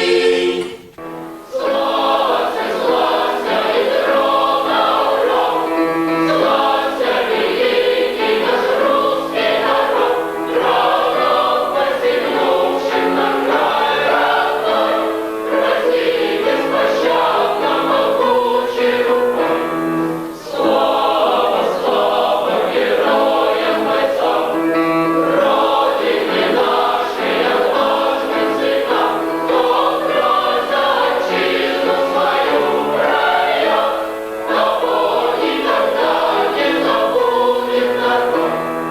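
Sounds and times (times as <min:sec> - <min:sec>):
choir singing in parts: 0:00.0 - 0:38.9.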